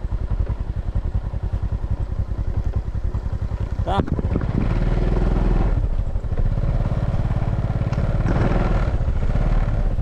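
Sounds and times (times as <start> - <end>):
small motorbike engine running: 0.0 - 10.0.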